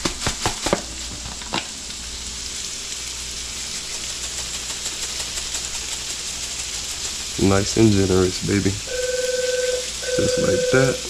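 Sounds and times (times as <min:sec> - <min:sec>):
fish sizzling in butter: 0:00.5 - 0:11.0.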